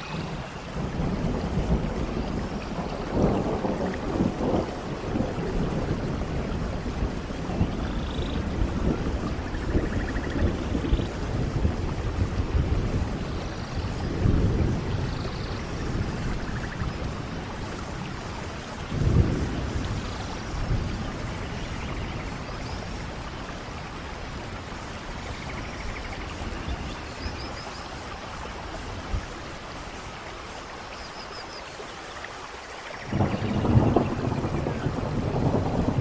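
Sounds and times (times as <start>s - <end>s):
rolling thunder: 0.0s - 27.1s, 33.0s - 36.0s
steady rain: 0.0s - 36.0s.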